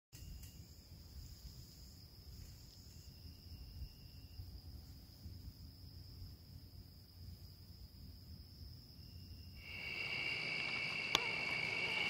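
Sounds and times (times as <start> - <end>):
insects trilling: 0.2 - 12.0.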